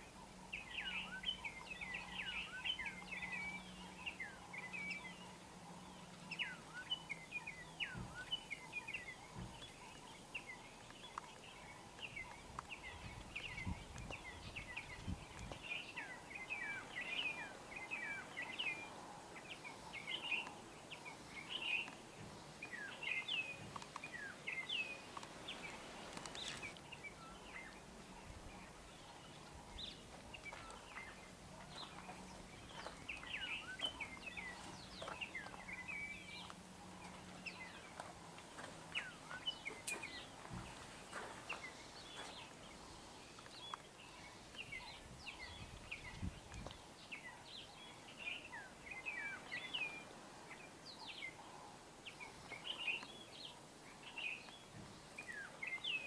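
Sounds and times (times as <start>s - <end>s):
faint outdoor background noise: 0.0s - 56.0s
small birds chirping and twittering: 0.0s - 56.0s.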